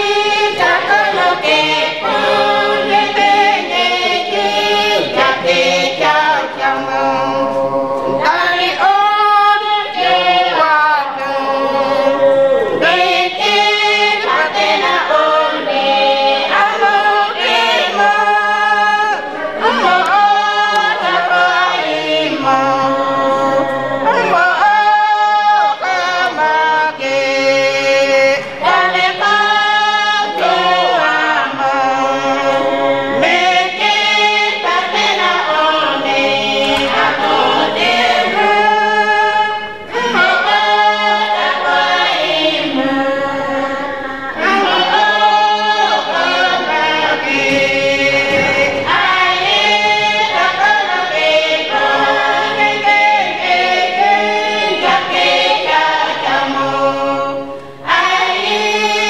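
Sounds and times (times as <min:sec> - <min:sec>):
group of people singing: 0:00.0 - 0:59.0.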